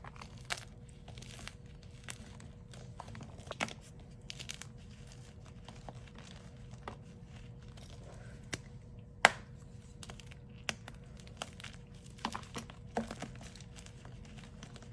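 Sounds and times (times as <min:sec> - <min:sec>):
crinkling: 0:00.0 - 0:08.8, 0:09.6 - 0:14.9
faint steady hum: 0:00.0 - 0:14.9.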